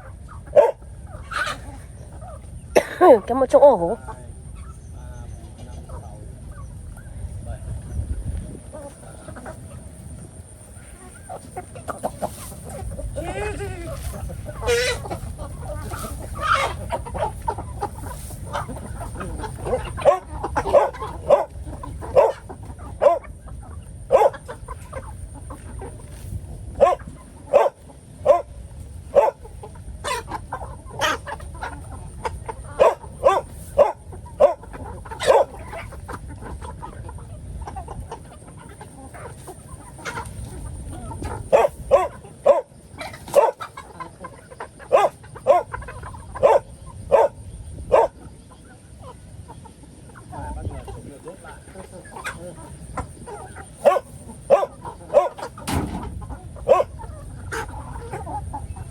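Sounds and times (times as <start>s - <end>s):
chickens clucking: 0.0s - 58.9s.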